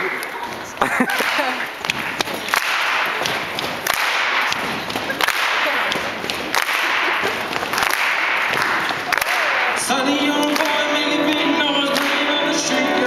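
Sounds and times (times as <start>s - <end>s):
sharp claps: 0.0s - 13.0s.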